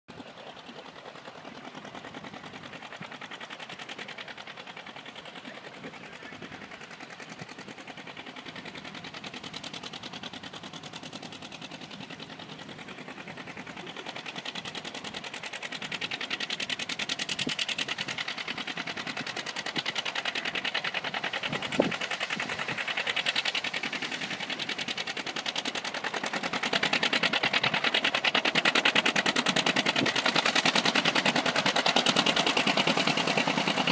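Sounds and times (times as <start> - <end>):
tractor engines popping exhaust: 0.2 - 33.9.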